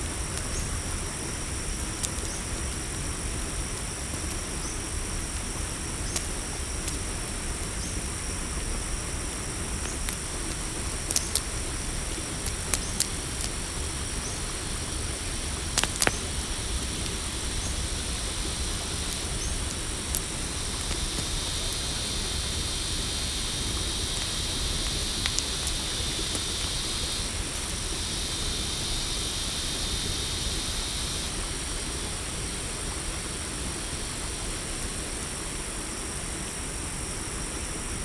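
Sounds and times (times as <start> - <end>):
crickets chirring: 0.0 - 38.0
campfire crackling pops: 0.1 - 31.4.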